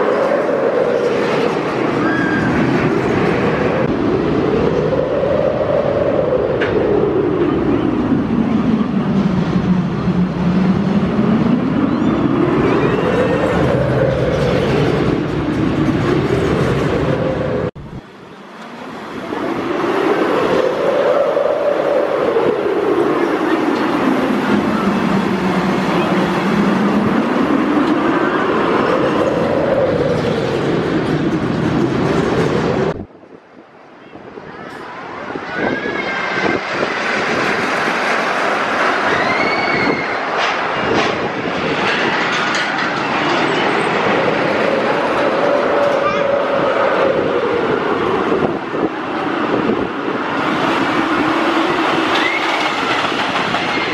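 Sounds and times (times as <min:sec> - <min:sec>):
roller coaster wheels rumbling on rail: 0:00.0 - 0:53.9.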